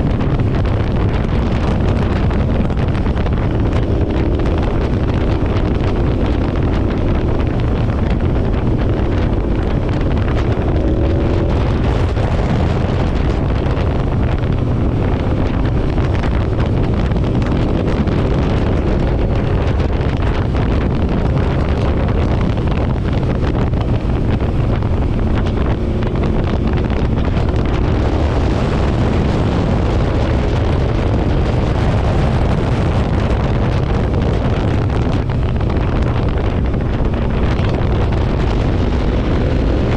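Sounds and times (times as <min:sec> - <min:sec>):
motorcycle engine drone: 0:00.0 - 0:39.9
wind buffeting microphone: 0:00.0 - 0:39.9.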